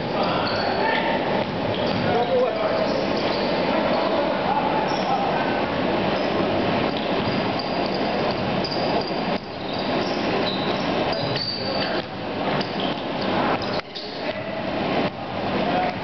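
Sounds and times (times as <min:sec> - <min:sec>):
sneaker squeaks: 0:00.0 - 0:05.4, 0:06.1 - 0:14.6.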